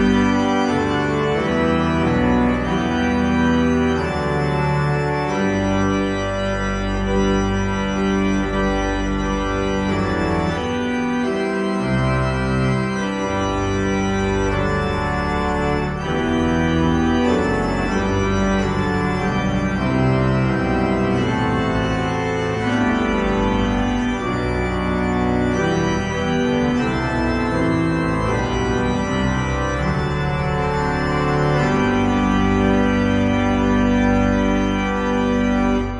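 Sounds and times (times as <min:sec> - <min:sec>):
church organ playing chords: 0:00.0 - 0:35.9.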